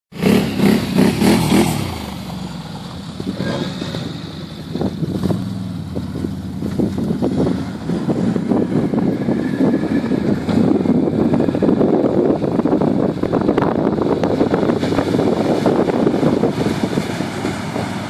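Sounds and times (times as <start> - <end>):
engines revving: 0.1 - 18.0.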